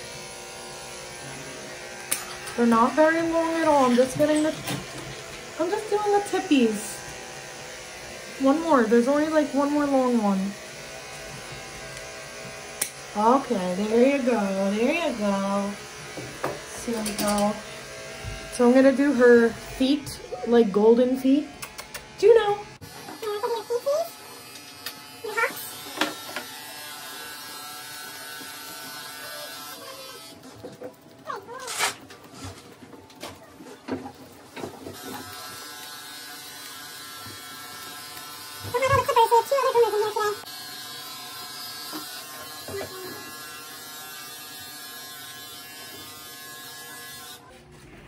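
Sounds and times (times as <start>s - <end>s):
electric clippers buzzing: 0.0s - 32.3s, 34.2s - 47.5s.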